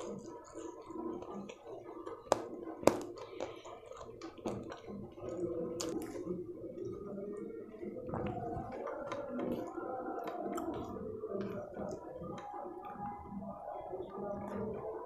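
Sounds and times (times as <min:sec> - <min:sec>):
fingers squishing rice: 0:00.0 - 0:14.6.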